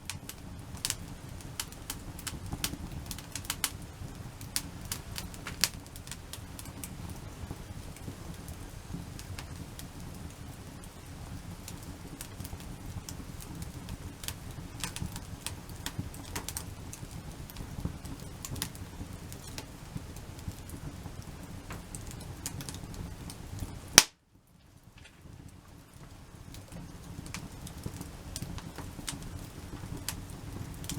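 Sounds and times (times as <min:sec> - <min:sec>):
campfire crackling and popping: 0:00.0 - 0:30.9
loud fire crack: 0:00.0 - 0:30.9
low fire rumble: 0:00.0 - 0:30.9.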